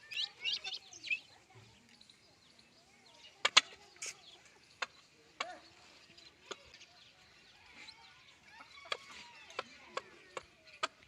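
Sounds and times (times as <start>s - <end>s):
peahen clucking: 0.0s - 1.3s, 3.1s - 11.0s
small birds chirping: 0.0s - 11.0s.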